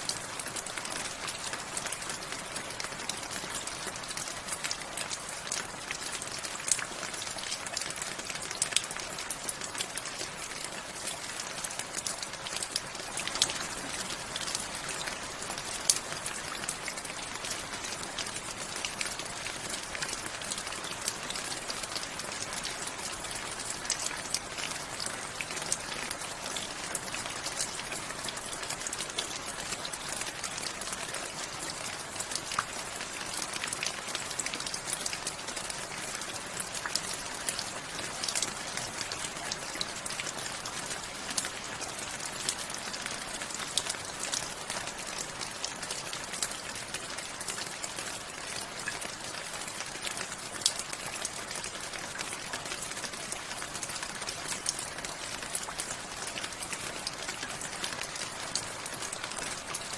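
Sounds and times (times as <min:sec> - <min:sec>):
raindrops ticking on hard surfaces: 0:00.0 - 0:59.9.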